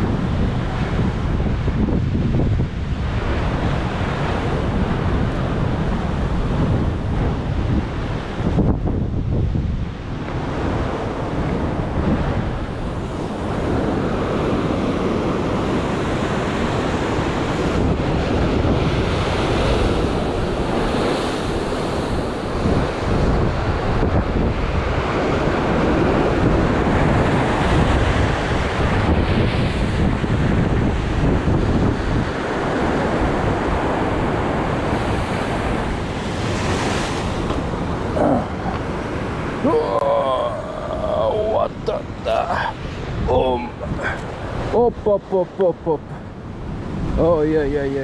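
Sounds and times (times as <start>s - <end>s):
sea surf washing: 0.0s - 48.0s
wind buffeting the microphone: 0.0s - 48.0s.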